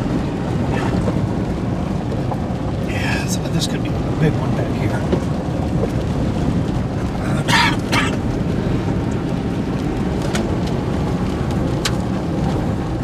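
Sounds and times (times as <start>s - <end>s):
vehicle rumbling: 0.0s - 13.0s.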